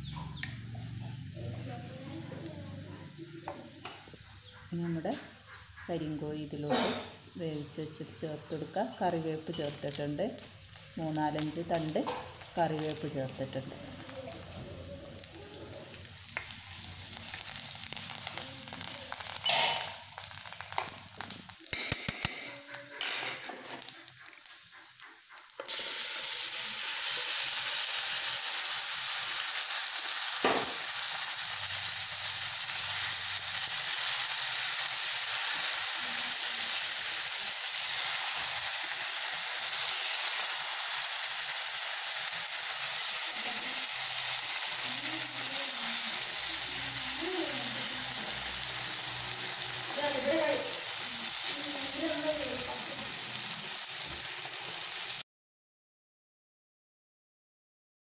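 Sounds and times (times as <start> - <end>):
food frying in oil: 0.0 - 55.2
loud steady sizzle: 0.0 - 55.2.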